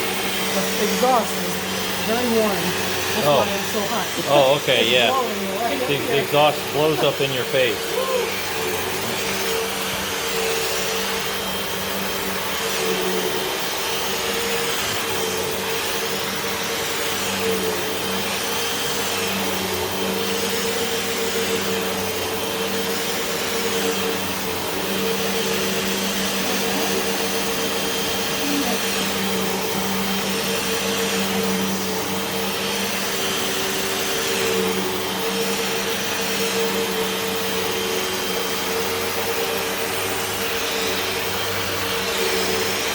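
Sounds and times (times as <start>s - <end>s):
upright vacuum running: 0.0s - 42.9s.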